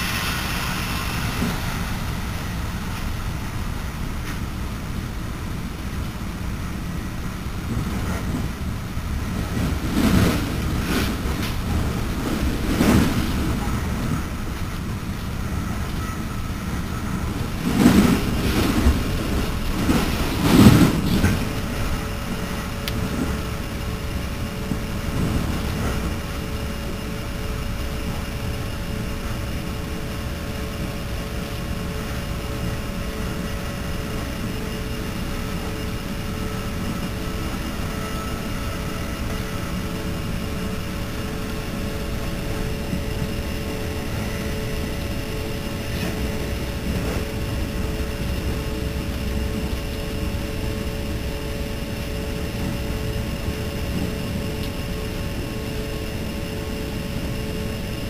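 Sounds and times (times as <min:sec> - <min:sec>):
faint steady hum: 0:00.0 - 0:58.0
train car rolling rumble: 0:00.0 - 0:58.0
train rattling surges: 0:00.0 - 0:58.0.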